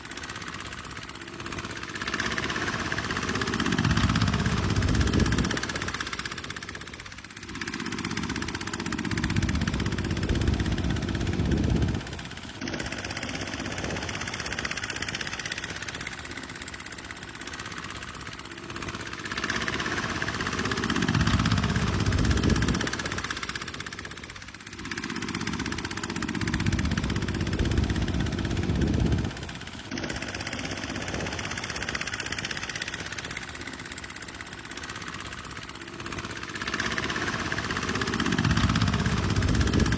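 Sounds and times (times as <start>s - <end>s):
tractor diesel engine rumbling: 0.0s - 39.9s.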